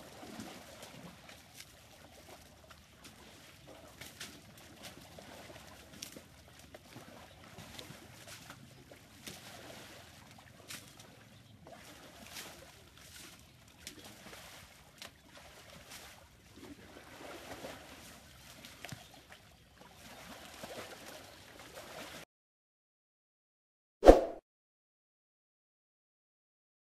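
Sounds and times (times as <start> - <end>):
mud splashing and squelching: 0.0 - 22.2.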